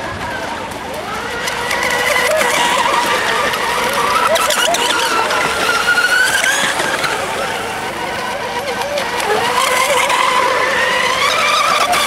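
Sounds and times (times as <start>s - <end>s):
racing boat motors whining: 0.0s - 12.0s.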